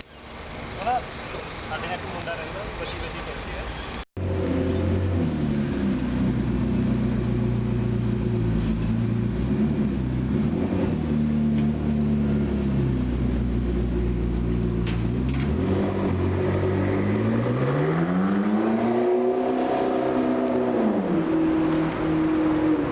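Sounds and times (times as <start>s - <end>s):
car engine revving: 4.2s - 22.9s.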